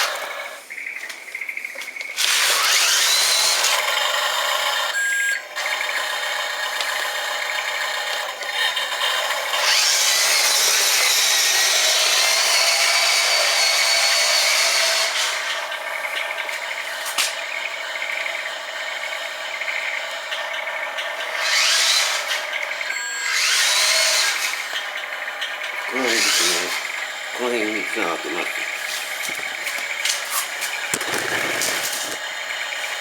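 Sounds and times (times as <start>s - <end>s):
small electric motors whirring: 2.2s - 5.0s, 5.6s - 33.0s.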